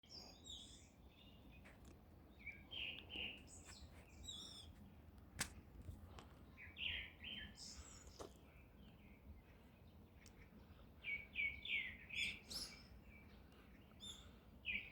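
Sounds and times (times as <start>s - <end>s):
songbirds chirping: 0.0s - 14.9s.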